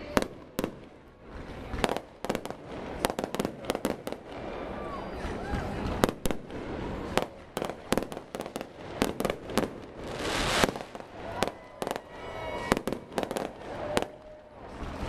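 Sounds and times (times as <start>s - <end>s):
fireworks bangs: 0.0s - 15.0s
fireworks hissing crackle: 0.0s - 15.0s.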